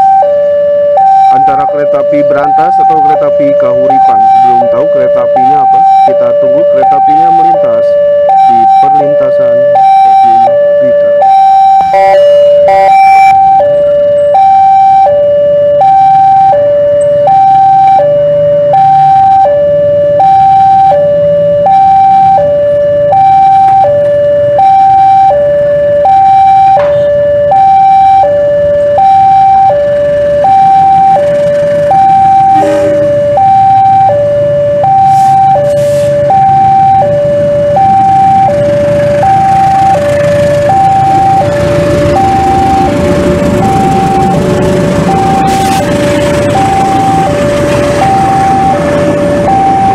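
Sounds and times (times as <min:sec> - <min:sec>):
diesel locomotive engine rumble: 0:00.0 - 0:49.9
level crossing two-tone alarm: 0:00.0 - 0:49.9.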